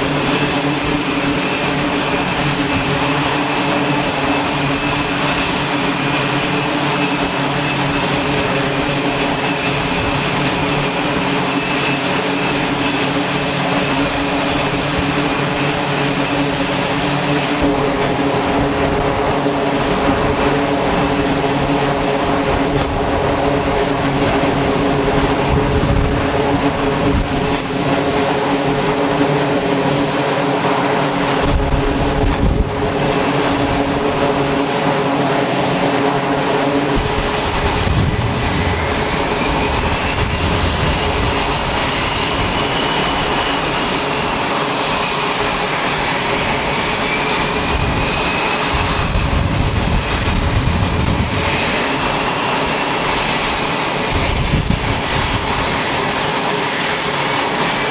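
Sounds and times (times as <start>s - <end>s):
jet engine whine: 0.0s - 57.9s
turboprop engines droning: 0.0s - 57.9s.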